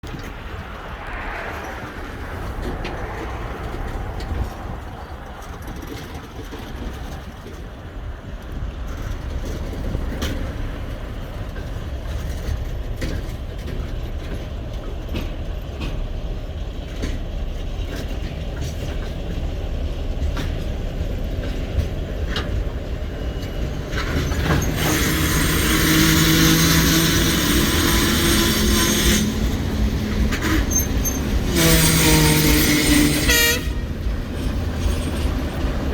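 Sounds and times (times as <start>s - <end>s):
locomotive engine and rail rumble: 0.0s - 35.9s
wheels clicking over rail joints: 0.0s - 35.9s.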